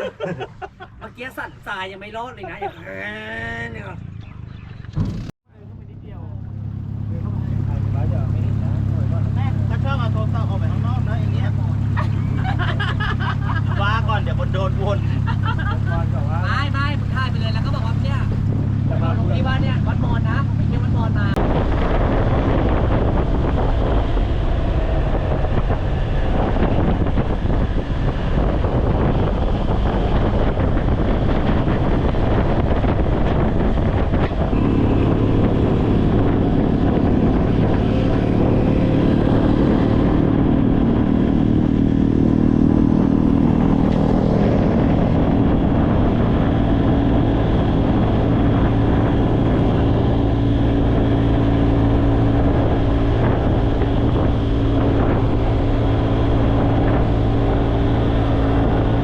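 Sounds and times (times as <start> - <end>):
motorboat engine running: 2.4 - 59.0.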